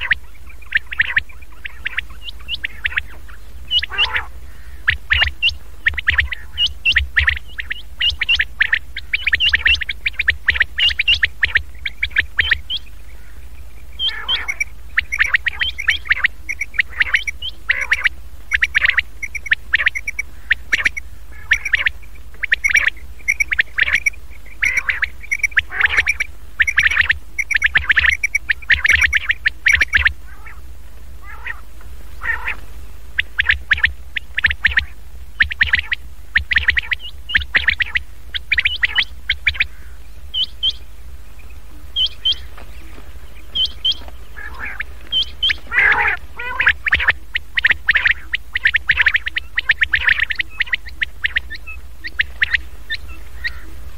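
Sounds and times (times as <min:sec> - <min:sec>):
quail calling: 0:00.0 - 0:53.9
steady low hum: 0:00.0 - 0:53.9.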